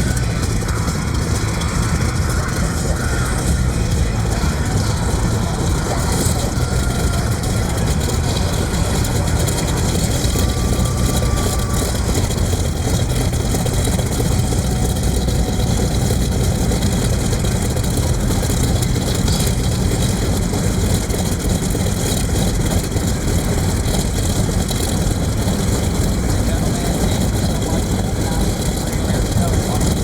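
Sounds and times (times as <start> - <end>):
radial aircraft engine running: 0.0 - 30.0.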